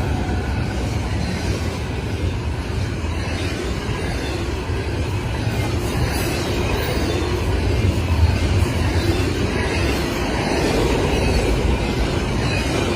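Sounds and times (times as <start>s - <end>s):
train rolling on rails: 0.0s - 12.9s.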